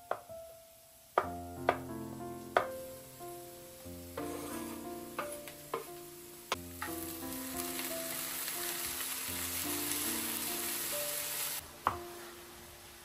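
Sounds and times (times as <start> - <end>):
background music: 0.0 - 12.8
food sizzling in a pan: 0.7 - 13.0.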